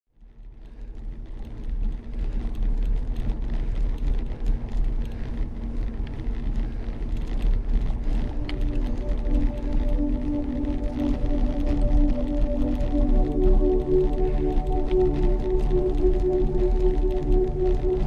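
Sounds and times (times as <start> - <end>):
bicycle tyres rolling on gravel: 0.2 - 18.0
wind rumbling on microphone: 0.2 - 18.0.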